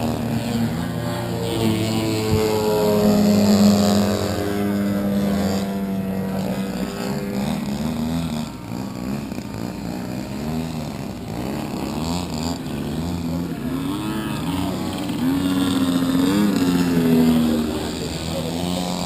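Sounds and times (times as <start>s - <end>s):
model airplane engines: 0.0s - 19.0s.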